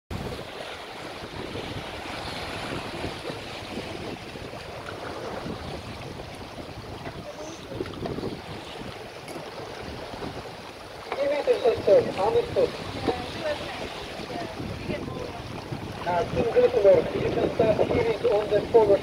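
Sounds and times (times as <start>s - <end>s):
water washing along hull: 0.1s - 19.0s
wind on microphone: 0.1s - 19.0s.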